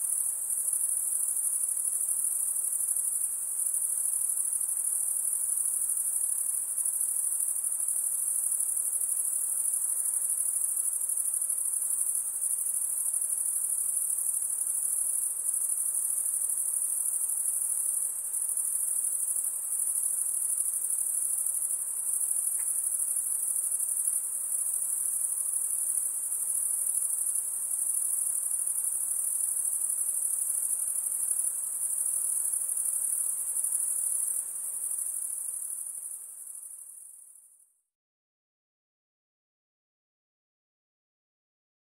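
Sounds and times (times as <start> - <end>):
insects trilling: 0.0 - 37.2.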